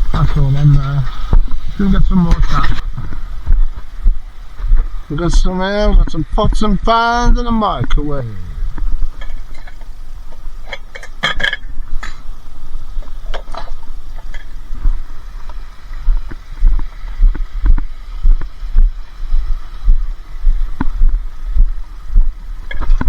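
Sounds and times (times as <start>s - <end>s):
low thumps: 0.0s - 23.0s
wind rumble on microphone: 0.0s - 23.0s.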